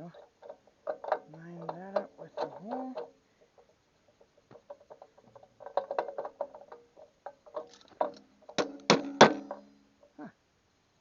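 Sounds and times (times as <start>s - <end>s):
metal bolt clinking and scraping: 0.0s - 10.1s.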